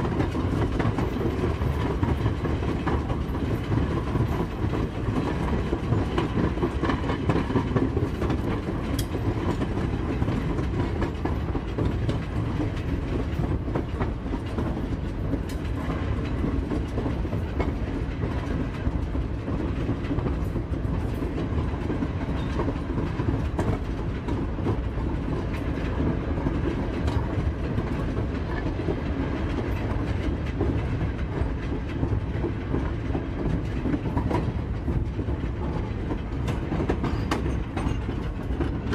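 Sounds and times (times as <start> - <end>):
railroad car rumbling: 0.0 - 38.9.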